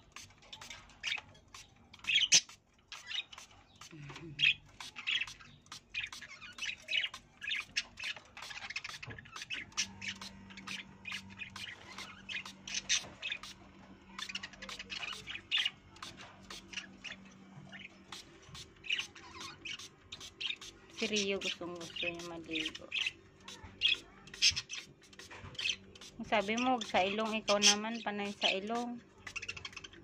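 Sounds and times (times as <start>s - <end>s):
parakeets squawking: 2.0s - 30.0s.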